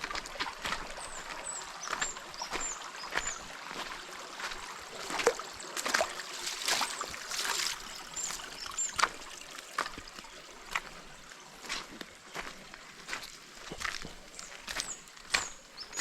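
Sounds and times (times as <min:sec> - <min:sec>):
footsteps splashing through stream: 0:00.0 - 0:16.0
running water: 0:00.0 - 0:16.0.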